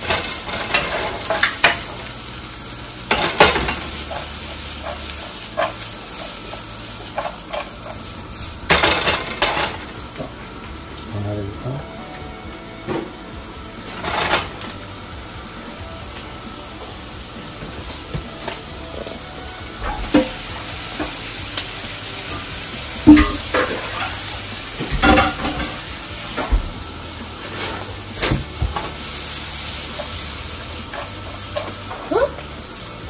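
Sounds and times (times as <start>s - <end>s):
onion sizzling in hot oil: 0.0s - 33.0s.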